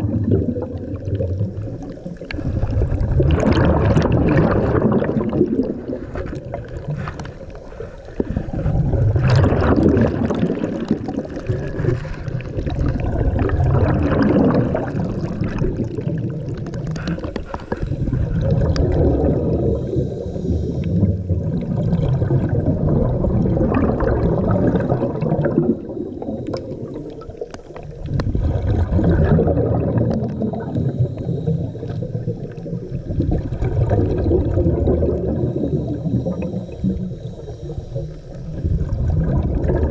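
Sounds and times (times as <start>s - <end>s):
underwater bubbling and gurgling: 0.0s - 39.9s.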